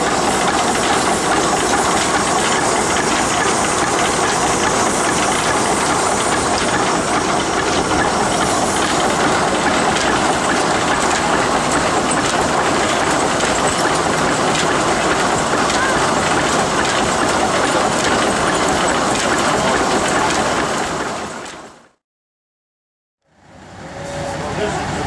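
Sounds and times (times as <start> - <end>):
train rumble and hiss: 0.0 - 21.8, 23.3 - 25.0
wheels clicking over rail joints: 0.0 - 21.8.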